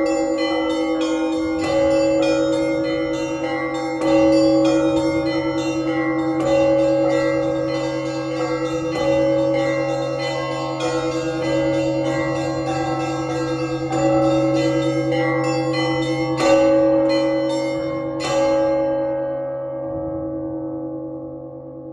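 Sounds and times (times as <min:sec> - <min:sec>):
heavy bell strikes: 0:00.0 - 0:21.9
large bells ringing: 0:00.0 - 0:21.9.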